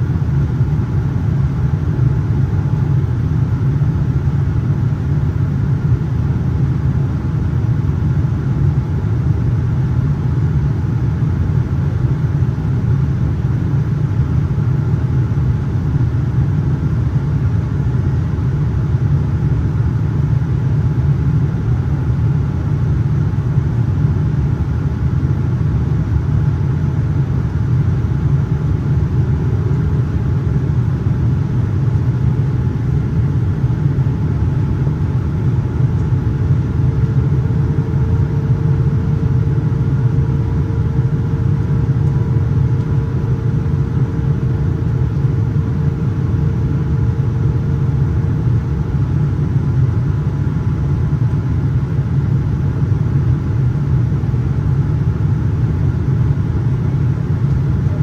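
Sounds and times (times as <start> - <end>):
airliner cabin drone: 0.0 - 58.0
faint steady hum: 0.0 - 58.0.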